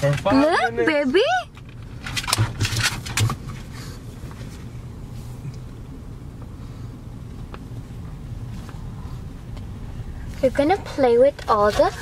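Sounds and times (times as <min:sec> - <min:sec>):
car engine and tyre hum: 0:00.0 - 0:12.0.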